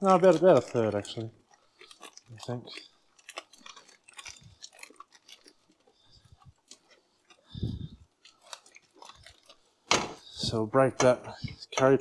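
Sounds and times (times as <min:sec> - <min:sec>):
plastic packet crinkling and squelching: 0:00.0 - 0:12.0
wet squishes and clicks: 0:00.0 - 0:12.0.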